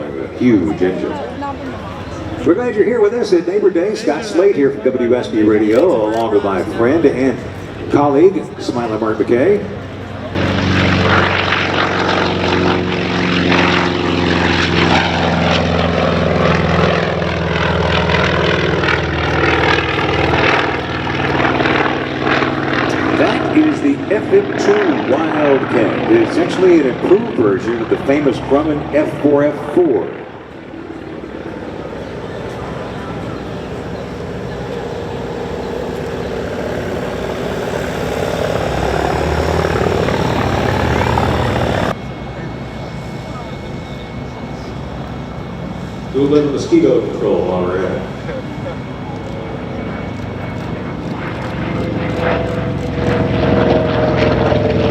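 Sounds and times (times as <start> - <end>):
propeller plane engine in flight: 0.0 - 54.9.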